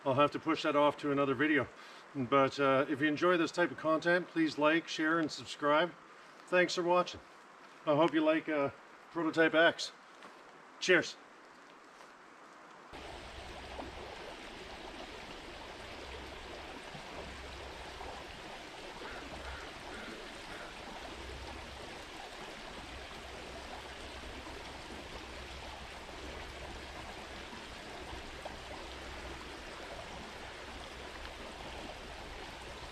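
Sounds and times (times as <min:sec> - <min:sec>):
creek flowing over stones: 0:00.0 - 0:32.9.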